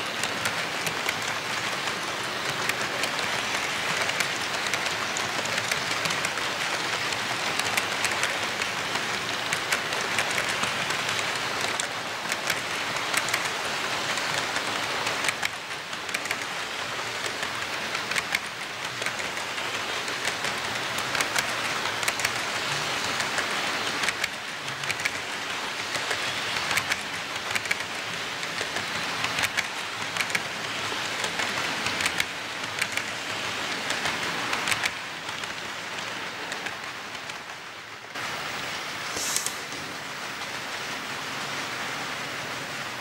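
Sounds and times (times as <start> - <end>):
clicks at rail joints: 0.0 - 37.7
model train wheels hissing on track: 0.0 - 43.0.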